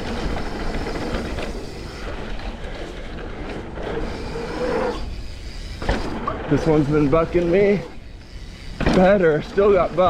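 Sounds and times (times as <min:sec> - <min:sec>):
bike knocking and rattling: 0:00.0 - 0:10.0
bike tyre roar: 0:00.0 - 0:10.0.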